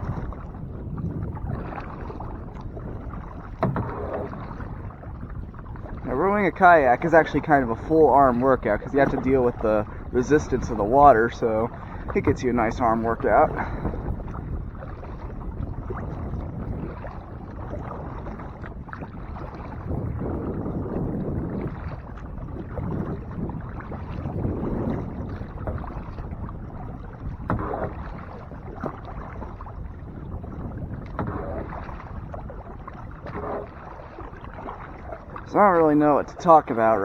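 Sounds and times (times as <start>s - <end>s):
paddle splashing in water: 0.0s - 37.0s.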